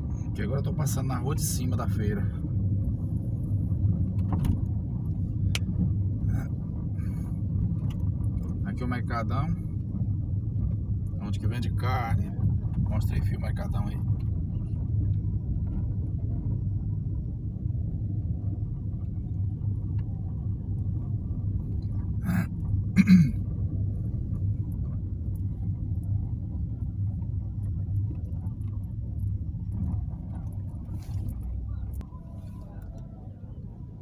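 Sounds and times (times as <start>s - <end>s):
car driving rumble inside cabin: 0.0s - 34.0s.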